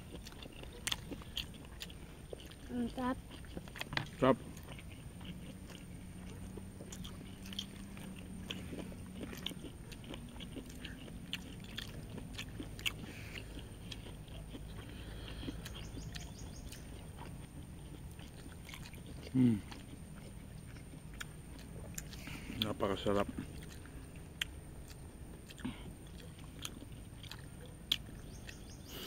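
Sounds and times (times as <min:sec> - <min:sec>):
chewing with small crunches: 0:00.0 - 0:29.0
faint low hum: 0:00.0 - 0:29.0.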